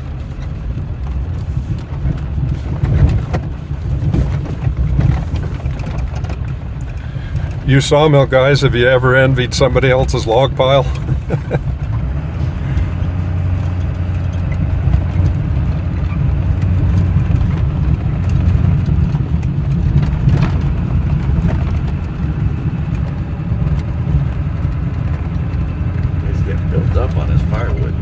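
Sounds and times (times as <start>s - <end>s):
road noise: 0.0s - 28.0s
vehicle engine rumbling: 0.0s - 28.0s.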